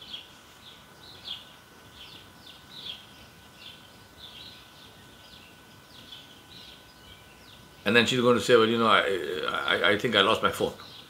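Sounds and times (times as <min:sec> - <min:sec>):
faint steady tone: 0:00.0 - 0:11.0
small bird chirping: 0:00.0 - 0:11.0.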